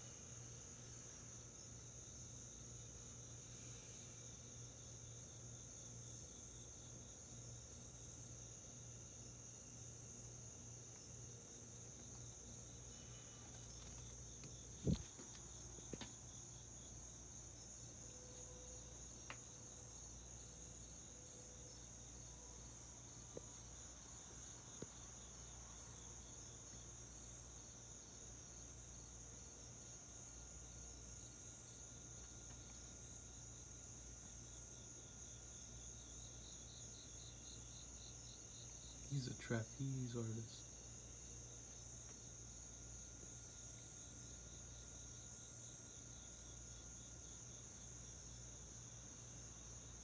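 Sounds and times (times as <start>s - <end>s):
crickets trilling: 0.0s - 50.0s.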